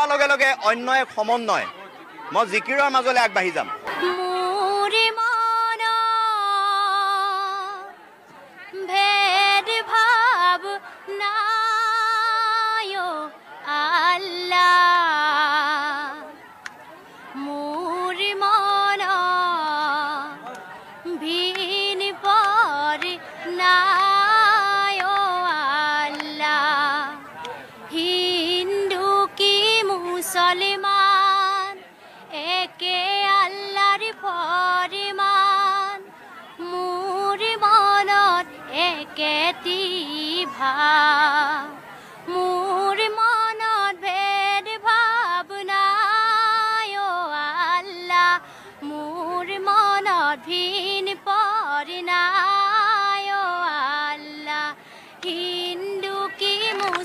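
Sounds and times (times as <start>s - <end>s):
woman singing unaccompanied: 3.9s - 16.5s, 17.1s - 57.0s.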